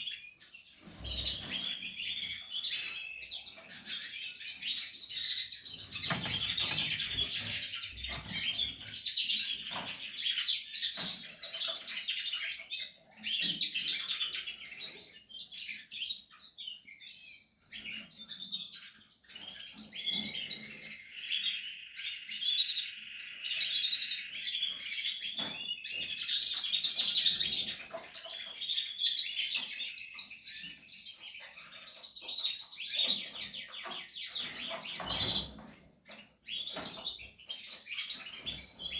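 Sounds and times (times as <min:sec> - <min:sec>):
canaries chirping and trilling: 0:00.0 - 0:38.9.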